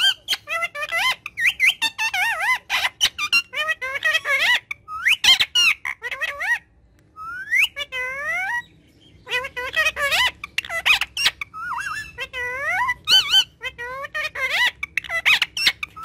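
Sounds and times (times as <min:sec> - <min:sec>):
parakeet chattering: 0:00.0 - 0:16.0.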